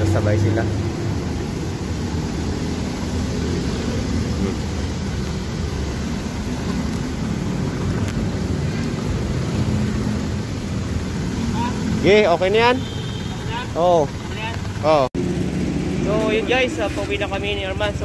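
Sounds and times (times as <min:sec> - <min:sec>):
truck engine rumbling: 0:00.0 - 0:18.0.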